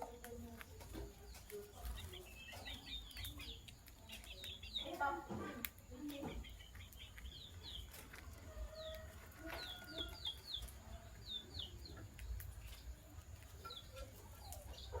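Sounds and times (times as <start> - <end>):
lovebirds chirping: 0.0 - 15.0.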